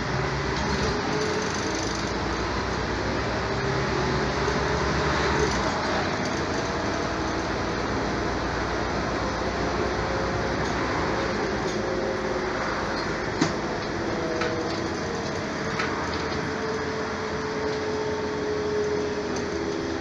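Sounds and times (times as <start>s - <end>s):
vehicle road noise: 0.0s - 20.0s.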